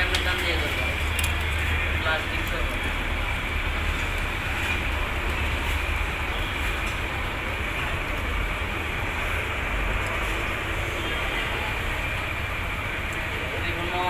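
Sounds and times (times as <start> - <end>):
low mechanical rumble: 0.0 - 14.0.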